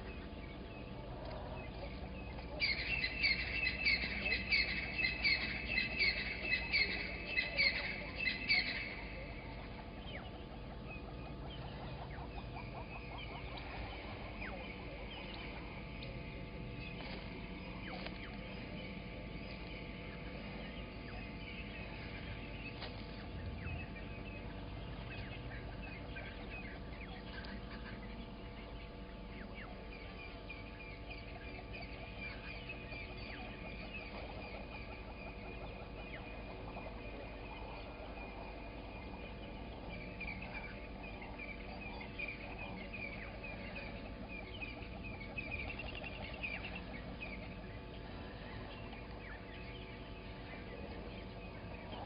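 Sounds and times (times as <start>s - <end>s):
birds chirping and trilling: 0.0s - 52.0s
faint steady hum: 0.0s - 52.0s.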